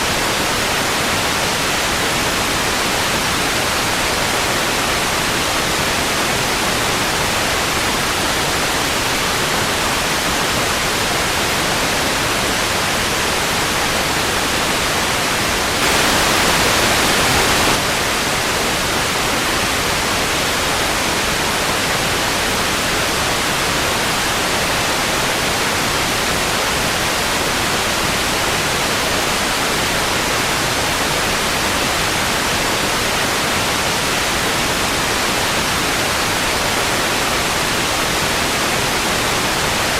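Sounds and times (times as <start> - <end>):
television static hiss: 0.0 - 33.0.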